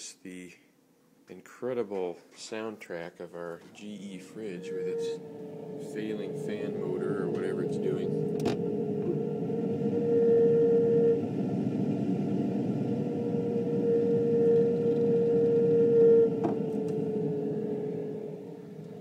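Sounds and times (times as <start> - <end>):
refrigerator fan motor whining: 3.7 - 19.0.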